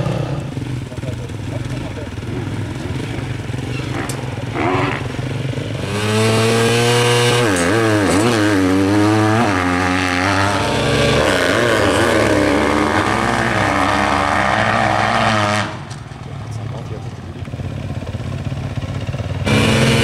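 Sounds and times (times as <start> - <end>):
motocross bike engine revving: 0.0 - 16.9, 17.7 - 20.0
second motorbike engine: 0.0 - 20.0.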